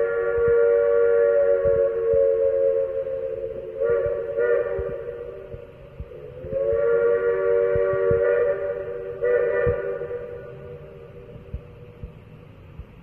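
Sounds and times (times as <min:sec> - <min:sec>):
steam whistle blowing chord: 0:00.0 - 0:11.8.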